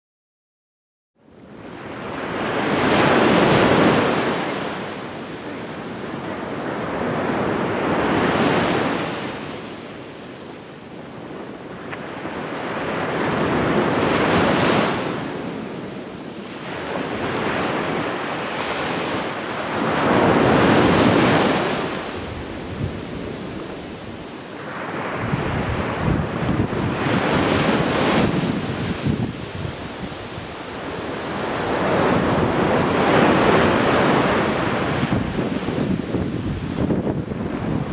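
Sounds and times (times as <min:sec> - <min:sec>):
waves breaking on a beach: 0:01.3 - 0:37.9.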